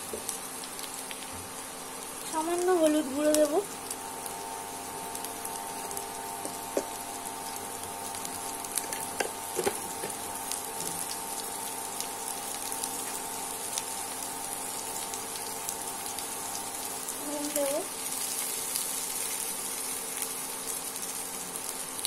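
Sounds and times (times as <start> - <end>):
induction cooktop hum: 0.0 - 22.0
vegetables sizzling in hot oil: 0.0 - 22.0.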